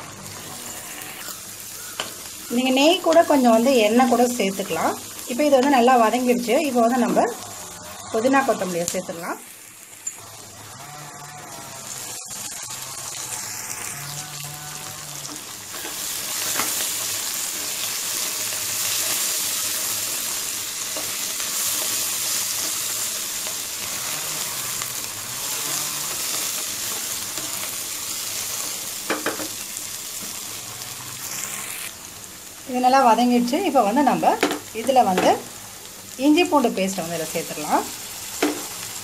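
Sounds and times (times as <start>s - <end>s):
vegetables sizzling in ghee: 0.0s - 39.0s.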